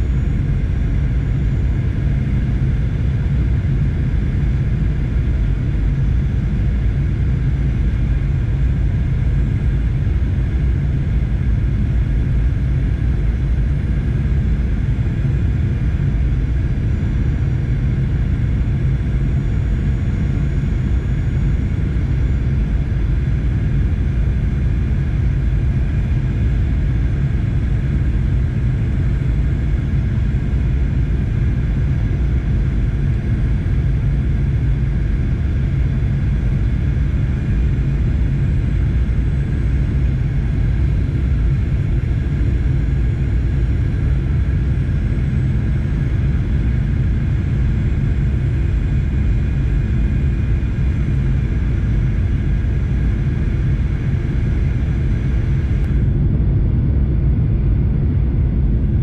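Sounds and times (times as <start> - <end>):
faint steady whine: 0.0 - 59.0
jet engine and airflow rumble: 0.0 - 59.0.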